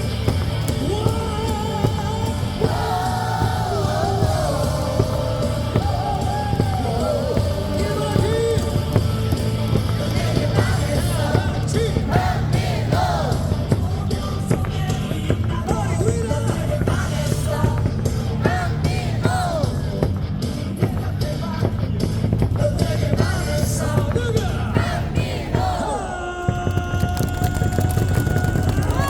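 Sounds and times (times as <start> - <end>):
crowd yelling: 0.0 - 20.2, 23.2 - 29.0
song over stadium loudspeakers: 0.0 - 29.0.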